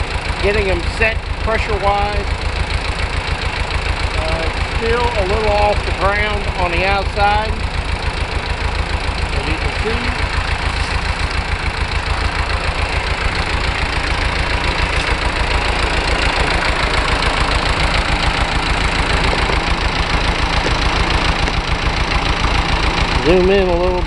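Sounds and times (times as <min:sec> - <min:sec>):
diesel tractor engine running: 0:00.0 - 0:24.0.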